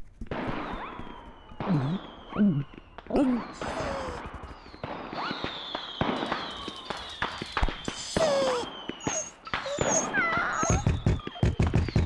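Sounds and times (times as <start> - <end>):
fireworks cracks and bangs: 0.2 - 12.0
falling firework whistle: 0.6 - 12.0.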